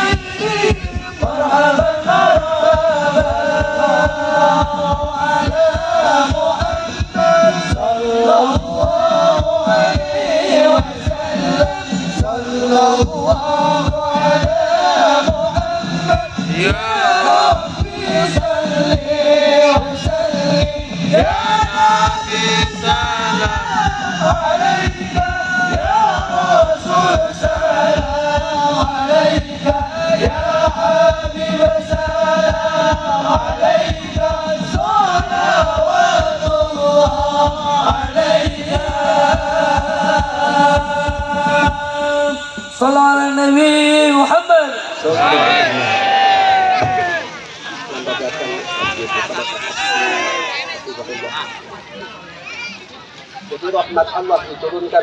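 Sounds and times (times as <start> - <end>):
frame drums beating: 0.0 - 42.9, 45.2 - 47.4
men chanting in chorus: 0.0 - 47.2.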